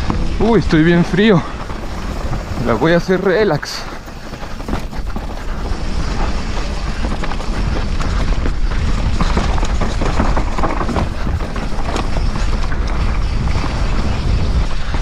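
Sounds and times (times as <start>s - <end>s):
bike rattling over rocks: 0.0s - 15.0s
tyres crunching on loose stones: 0.0s - 15.0s
wind rumbling on microphone: 0.0s - 15.0s.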